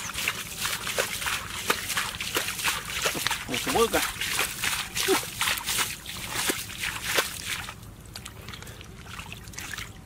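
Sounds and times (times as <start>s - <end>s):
feet splashing through mud: 0.0s - 10.0s
hands squelching in mud: 0.0s - 10.0s.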